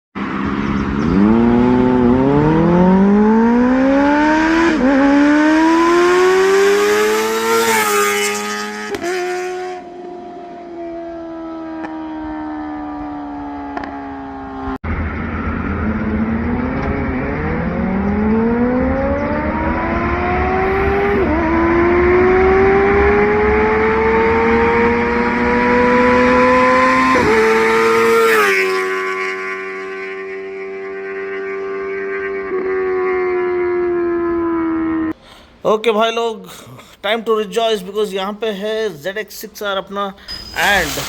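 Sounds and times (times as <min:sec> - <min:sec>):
motorcycle engine revving: 0:00.2 - 0:35.2.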